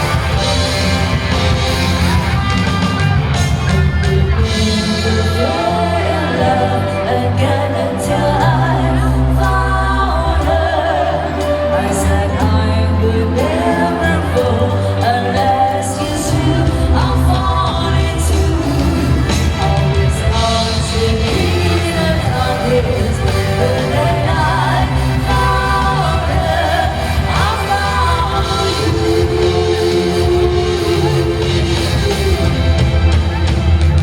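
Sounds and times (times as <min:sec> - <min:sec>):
person singing: 0:00.0 - 0:33.5
live pop-rock band: 0:00.0 - 0:34.0.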